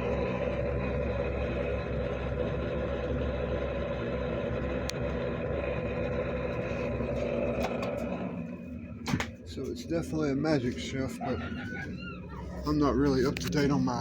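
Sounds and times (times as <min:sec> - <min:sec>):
refrigerator humming: 0:00.0 - 0:14.0.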